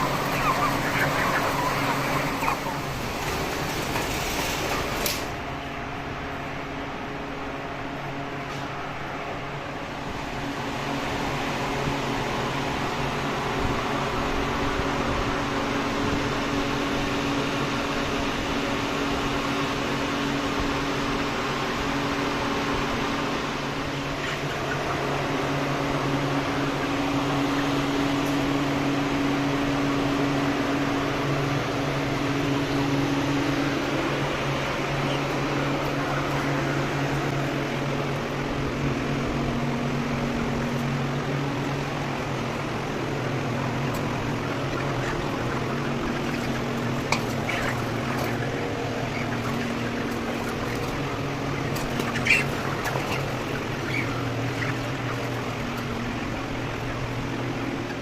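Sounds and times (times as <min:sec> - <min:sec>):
machinery hum: 0:00.0 - 0:58.0.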